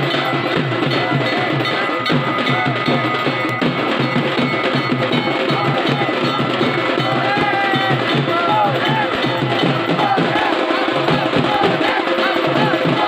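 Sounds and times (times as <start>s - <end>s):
bells ringing: 0.0s - 13.0s
fast steady drumming: 0.0s - 13.0s.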